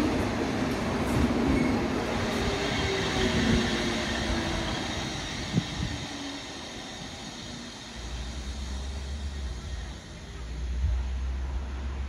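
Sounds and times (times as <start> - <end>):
electric train rolling past: 0.0 - 12.0.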